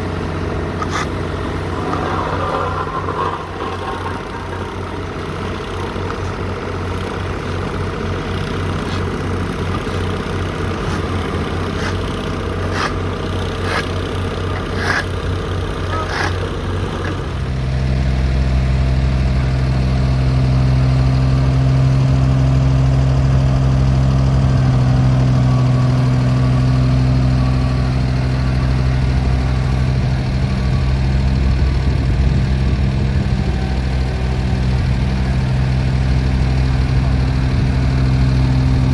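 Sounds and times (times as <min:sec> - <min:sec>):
diesel paving machine engine: 0:00.0 - 0:38.9.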